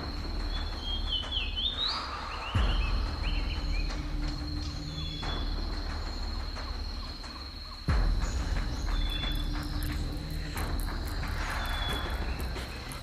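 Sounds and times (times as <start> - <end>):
bird calls: 0.0 - 13.0
high-pitched insect trill: 0.0 - 13.0.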